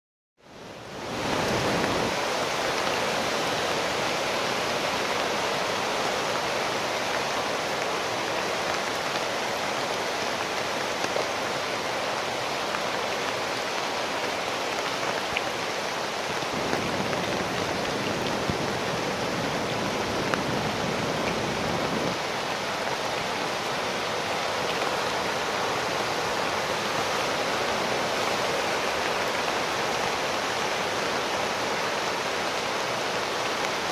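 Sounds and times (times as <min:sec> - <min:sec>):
floodwater rushing: 0:00.5 - 0:33.9.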